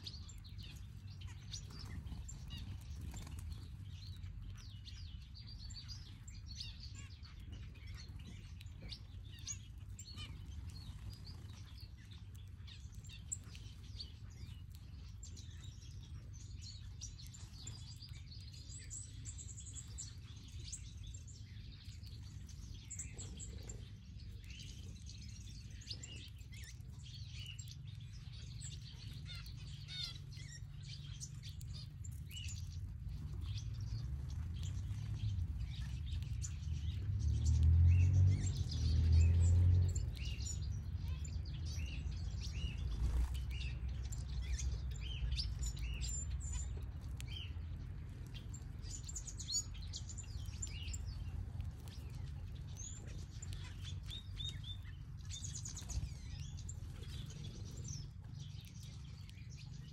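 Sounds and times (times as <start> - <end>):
finches chirping and twittering: 0.0 - 59.9
steady low rumble: 0.0 - 59.9.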